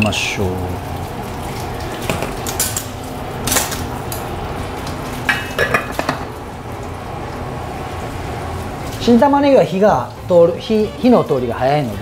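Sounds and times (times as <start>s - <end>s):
broth simmering hiss: 0.0s - 12.0s.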